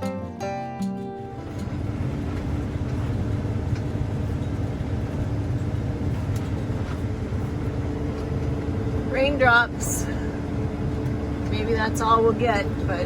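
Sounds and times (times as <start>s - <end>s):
combine harvester droning: 1.2s - 13.0s.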